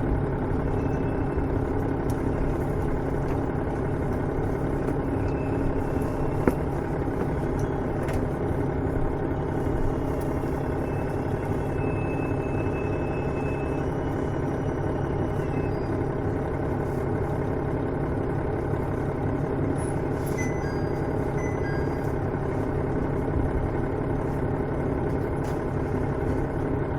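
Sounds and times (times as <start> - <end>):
railcar diesel engine idling: 0.0 - 26.9.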